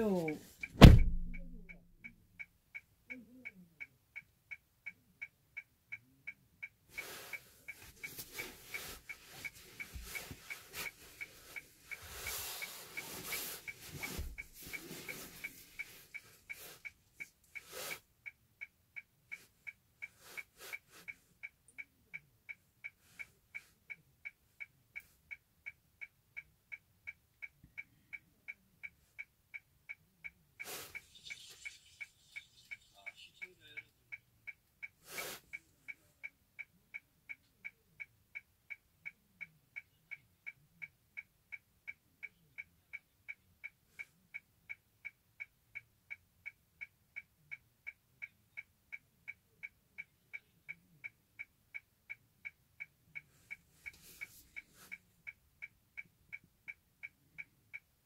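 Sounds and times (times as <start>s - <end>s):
car turn signal ticking: 0.0s - 31.3s, 32.0s - 58.0s.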